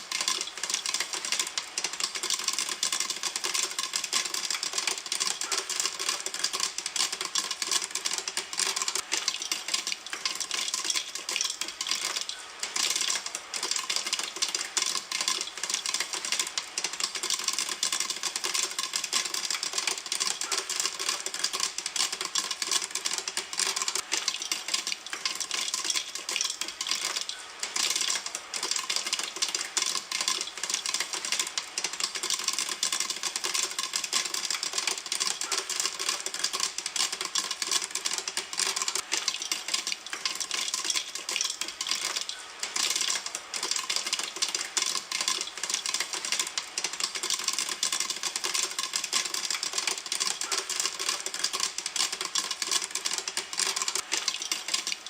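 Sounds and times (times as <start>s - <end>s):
popcorn popping in a pan: 0.0s - 55.0s.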